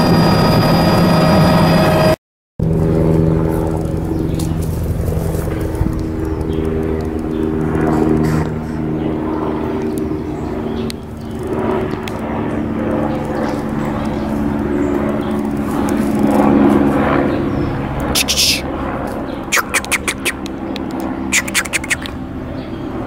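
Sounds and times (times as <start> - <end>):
small aircraft engine drone: 0.0 - 23.0.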